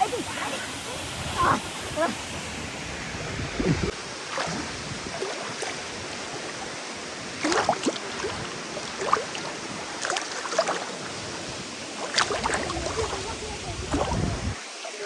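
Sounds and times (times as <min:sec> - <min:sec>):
water splashes and gurgles: 0:00.0 - 0:15.0
waterfall and stream rushing: 0:00.0 - 0:15.0.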